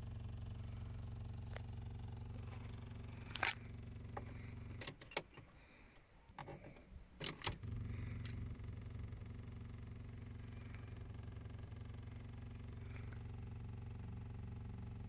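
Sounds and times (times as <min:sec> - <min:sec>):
diesel engine idling: 0:00.0 - 0:05.9, 0:07.4 - 0:15.0
engine cranking and starting: 0:02.2 - 0:14.9.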